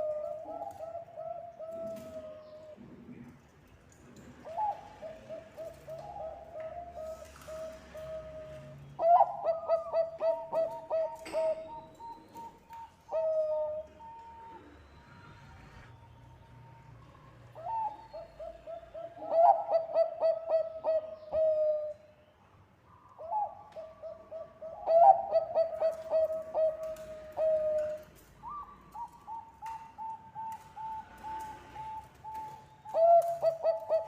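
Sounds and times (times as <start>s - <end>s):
doves cooing: 0.0s - 3.4s, 4.4s - 15.9s, 16.7s - 22.0s, 23.2s - 34.0s.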